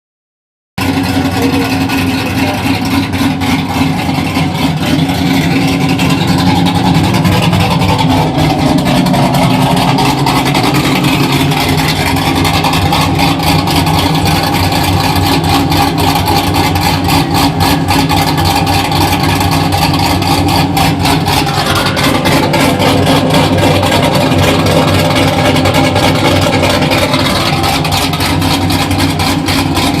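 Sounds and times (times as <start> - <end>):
truck engine running: 0.8 - 30.0.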